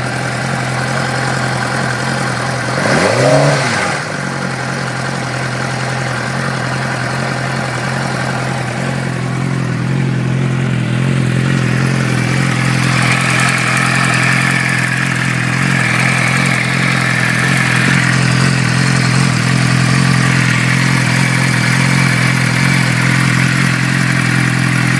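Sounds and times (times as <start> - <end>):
engine ticking: 0.0 - 24.9
motorcycle engine running steadily: 0.0 - 24.9.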